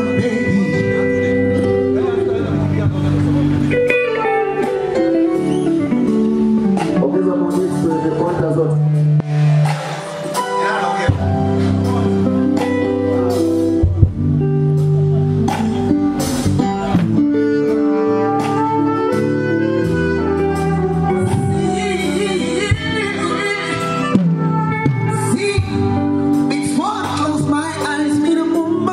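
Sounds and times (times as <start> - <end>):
loud instrumental music: 0.0 - 28.9.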